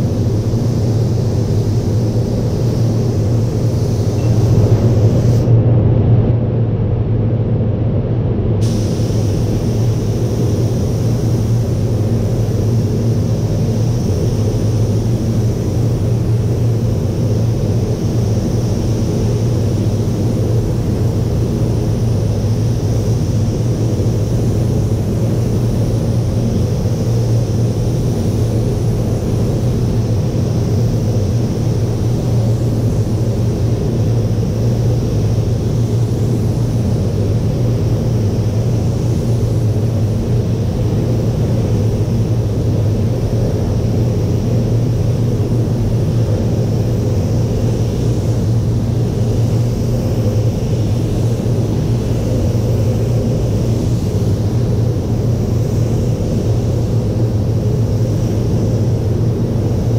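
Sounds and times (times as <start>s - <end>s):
air-handling fans droning: 0.0s - 59.9s.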